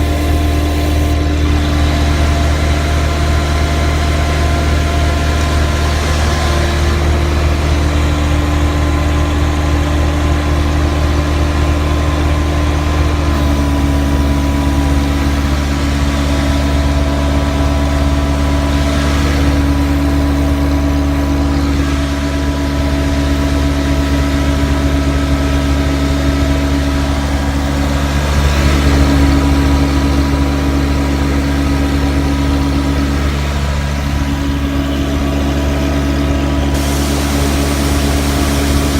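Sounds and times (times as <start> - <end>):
carpet cleaning machine drone: 0.0 - 38.9.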